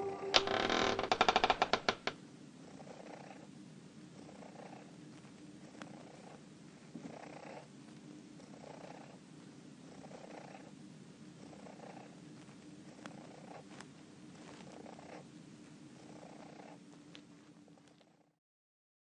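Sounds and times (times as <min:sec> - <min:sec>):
cat purring: 0:02.0 - 0:18.4.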